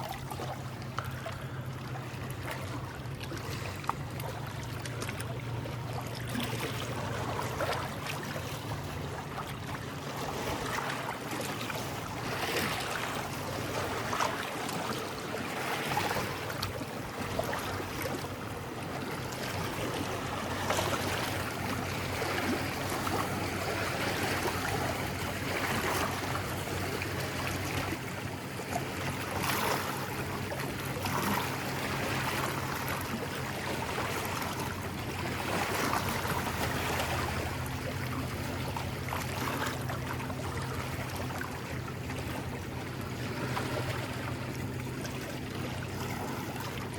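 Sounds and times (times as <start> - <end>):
waves lapping on rocky shore: 0.0 - 46.9.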